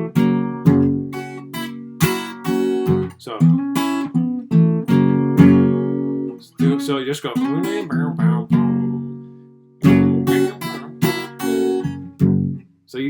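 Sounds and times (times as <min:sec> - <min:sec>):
fingerstyle blues guitar: 0:00.0 - 0:13.0.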